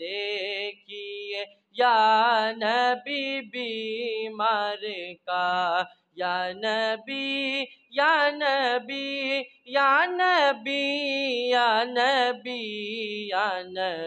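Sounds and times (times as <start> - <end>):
boy singing unaccompanied: 0.0 - 14.0.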